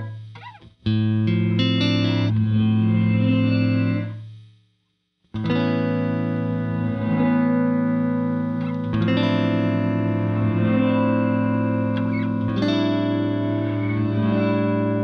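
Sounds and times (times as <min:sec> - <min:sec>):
electric guitar chords with reverb: 0:00.0 - 0:04.2, 0:05.4 - 0:15.0.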